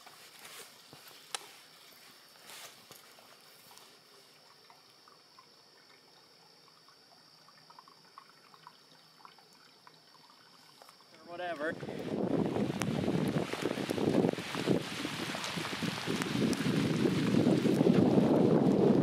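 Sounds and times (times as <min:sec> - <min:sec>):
steady high-pitched hiss: 0:00.0 - 0:19.0
water dripping: 0:00.9 - 0:19.0.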